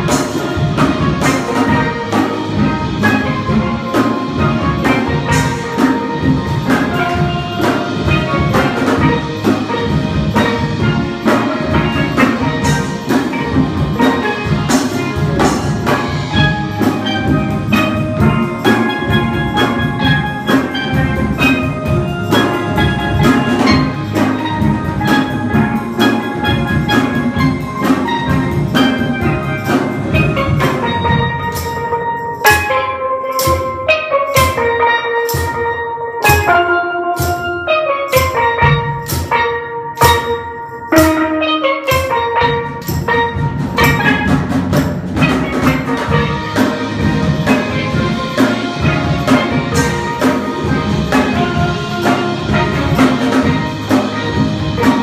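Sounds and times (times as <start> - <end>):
drum kit and hand drums: 0.0 - 55.0
steel pans playing pop song: 0.0 - 55.0.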